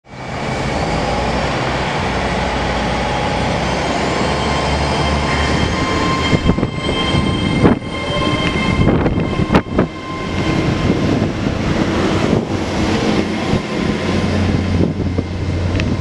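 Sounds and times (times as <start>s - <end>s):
train running gear rumble: 0.4s - 16.0s.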